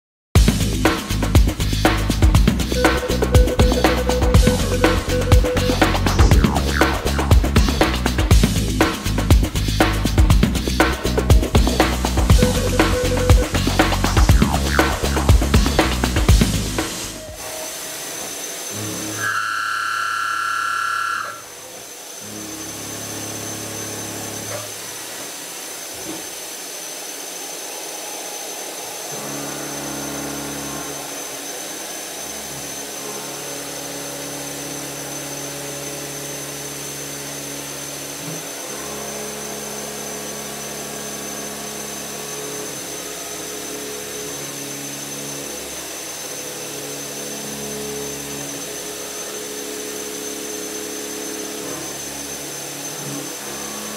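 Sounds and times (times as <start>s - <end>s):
milling machine spindle whine: 2.7s - 8.4s, 11.4s - 53.9s.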